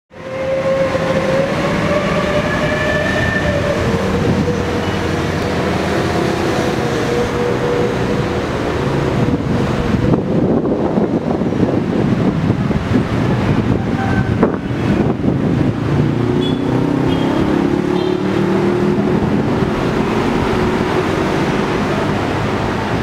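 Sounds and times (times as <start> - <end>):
train passing at speed: 0.1 - 23.0.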